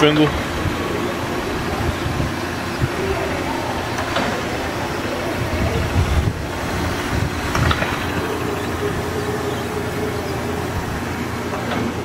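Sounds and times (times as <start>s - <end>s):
grinder spindle humming: 0.8s - 12.0s.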